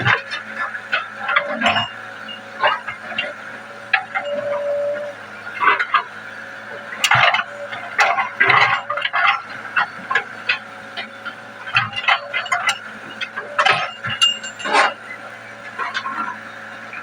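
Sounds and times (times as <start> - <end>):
bucket and tracks clanking: 0.0 - 17.0
excavator engine running: 0.0 - 17.0.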